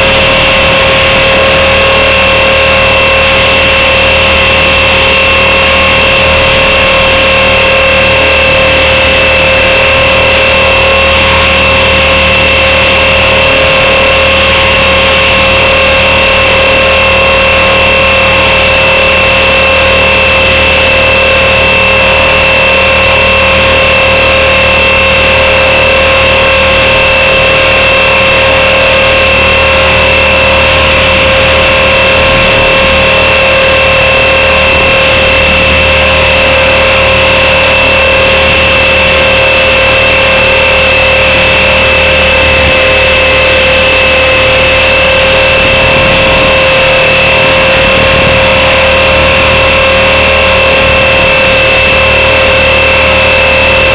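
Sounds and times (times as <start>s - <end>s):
helicopter motor whine: 0.0s - 53.9s.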